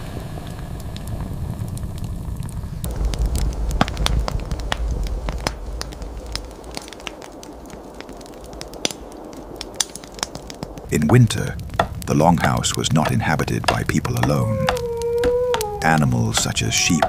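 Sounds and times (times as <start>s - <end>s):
low rumble of flame: 0.0s - 17.0s
wood fire crackling: 0.0s - 17.0s.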